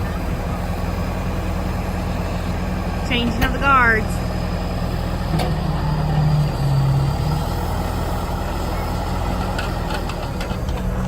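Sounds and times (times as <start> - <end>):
low engine running: 0.0 - 11.0.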